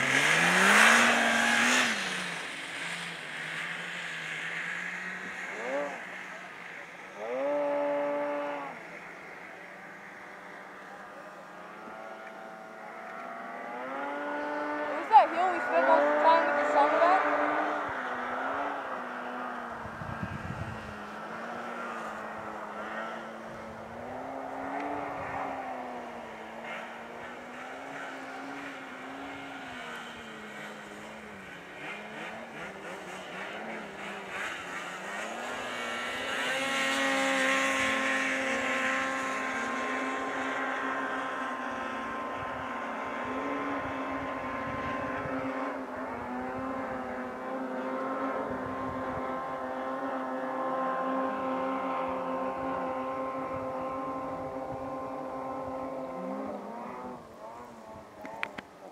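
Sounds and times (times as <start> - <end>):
distant snowmobile engine climbing: 0.0 - 58.9.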